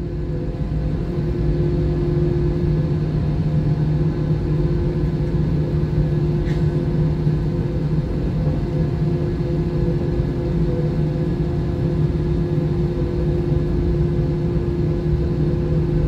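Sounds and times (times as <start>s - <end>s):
jet engines humming: 0.0s - 16.0s.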